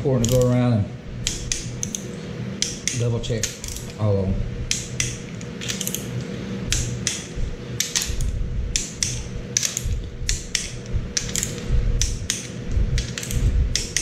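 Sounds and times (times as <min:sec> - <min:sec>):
hand ratchet clicking: 0:00.0 - 0:00.6, 0:01.2 - 0:02.0, 0:02.6 - 0:04.0, 0:04.7 - 0:06.1, 0:06.7 - 0:14.0.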